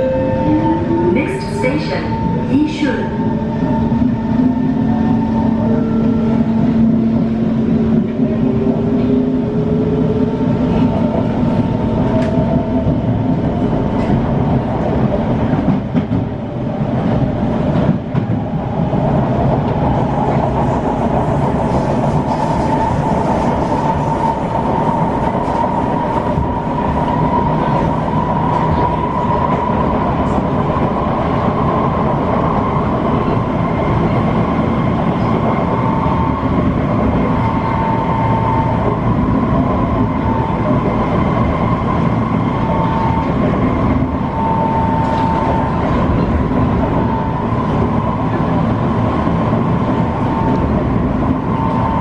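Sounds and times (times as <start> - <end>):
wheels rumbling on rail: 0.0 - 52.0.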